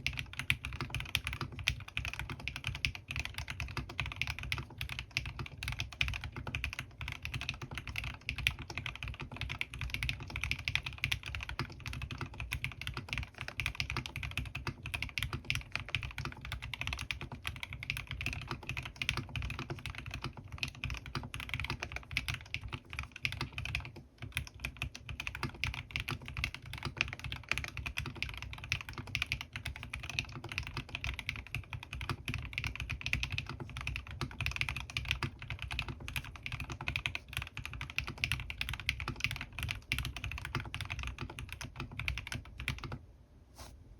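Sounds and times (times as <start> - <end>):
fast mechanical keyboard typing: 0.0 - 43.0.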